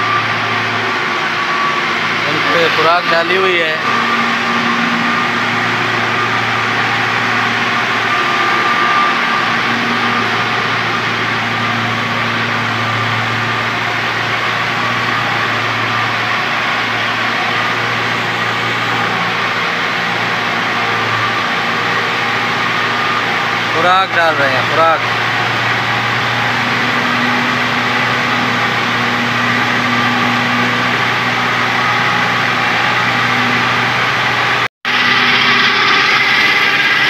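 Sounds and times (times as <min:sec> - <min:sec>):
fixed tones: 0:00.0 - 0:37.0
machine humming: 0:00.0 - 0:37.0.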